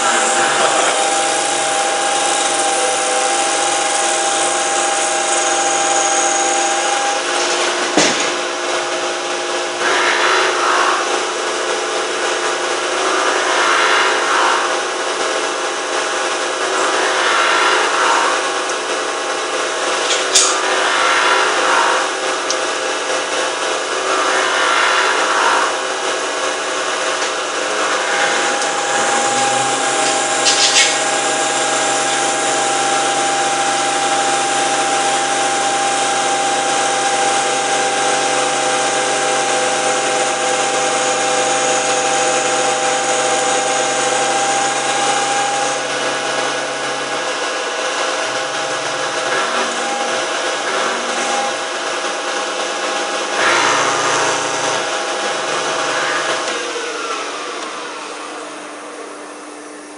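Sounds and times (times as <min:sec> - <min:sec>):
lathe whine and cutting noise: 0:00.0 - 0:59.9
steady pitched hum: 0:00.0 - 0:59.9.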